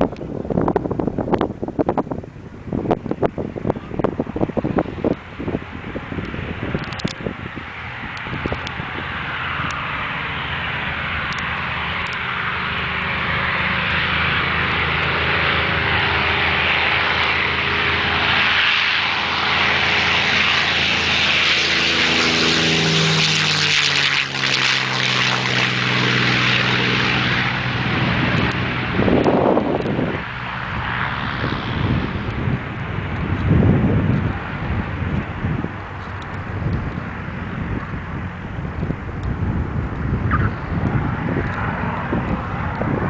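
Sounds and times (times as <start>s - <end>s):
aircraft engine drone: 0.0s - 43.0s
propeller roar: 0.0s - 43.0s.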